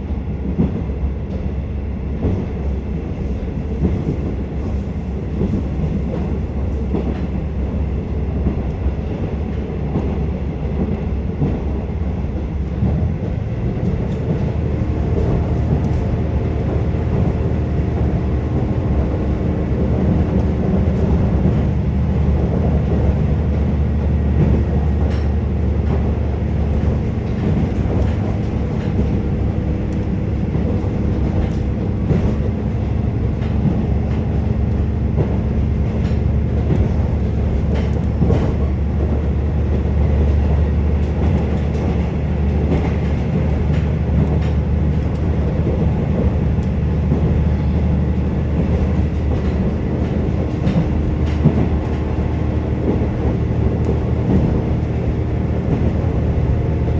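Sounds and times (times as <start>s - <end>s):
steady engine hum: 0.0s - 56.9s
wheels rumbling on rail: 0.0s - 56.9s.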